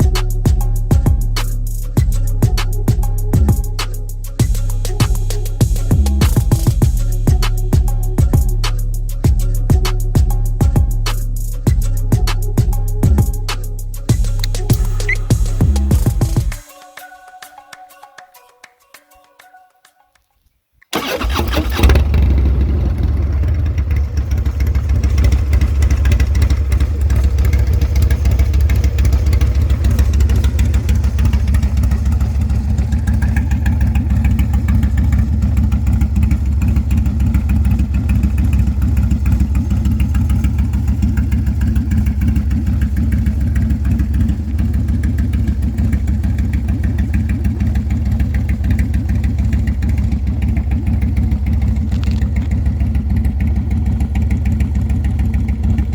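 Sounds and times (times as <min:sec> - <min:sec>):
motorcycle engine idling: 0:00.0 - 0:16.6, 0:20.9 - 0:55.9.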